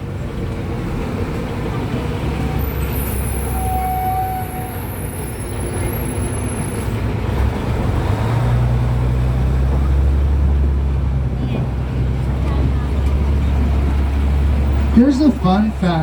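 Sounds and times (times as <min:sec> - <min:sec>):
vehicle engine running: 0:00.0 - 0:03.6, 0:04.9 - 0:16.0
road noise: 0:00.0 - 0:16.0.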